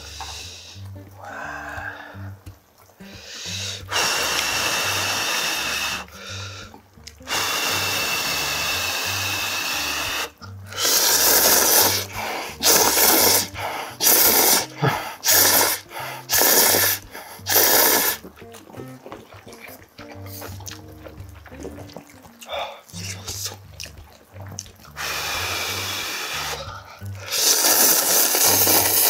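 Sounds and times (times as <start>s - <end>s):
faint background music: 0.0s - 29.0s
person slurping noodles: 0.0s - 29.0s.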